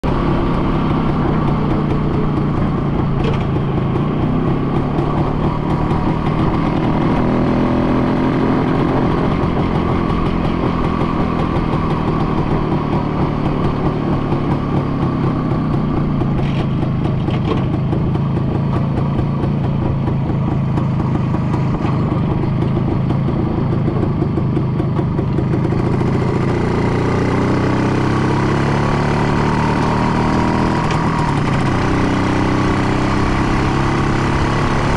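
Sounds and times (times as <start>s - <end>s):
engine running: 0.0s - 34.9s.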